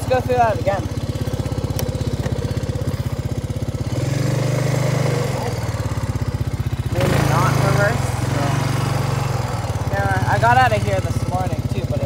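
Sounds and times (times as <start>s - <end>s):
atv engine chugging: 0.0s - 12.0s.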